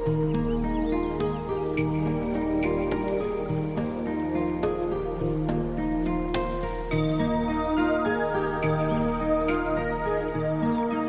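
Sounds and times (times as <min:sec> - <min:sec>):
calm background music: 0:00.0 - 0:11.0.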